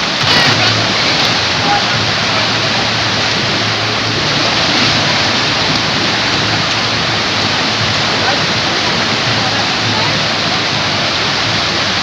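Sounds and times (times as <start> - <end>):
water pouring into pool: 0.0 - 12.0.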